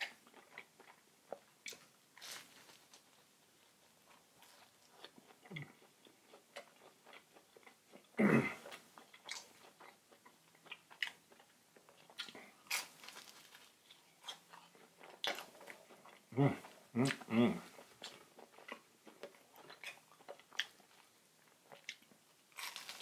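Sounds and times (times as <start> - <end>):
chewing crisp food: 0.0 - 23.0.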